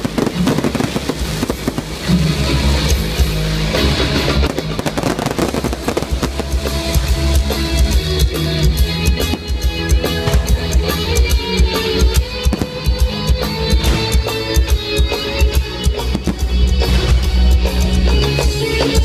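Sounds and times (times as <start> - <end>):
fireworks popping and crackling: 0.0 - 19.0
loud rock music: 0.0 - 19.0.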